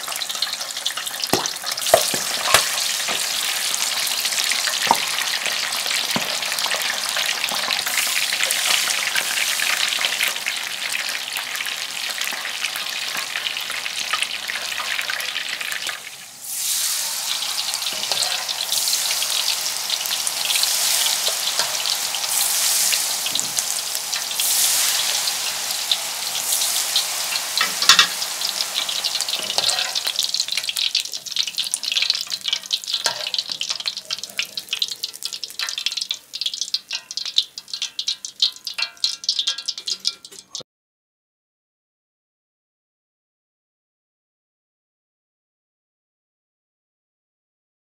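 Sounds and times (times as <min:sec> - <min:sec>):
food sizzling and crackling: 0:00.0 - 0:40.6.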